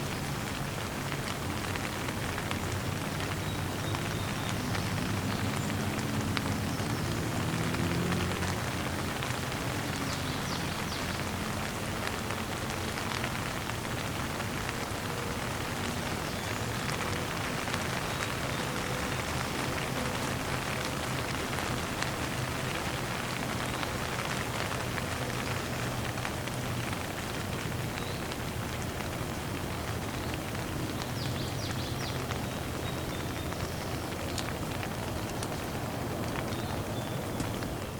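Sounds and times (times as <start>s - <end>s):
gentle rain falling: 0.0s - 37.9s.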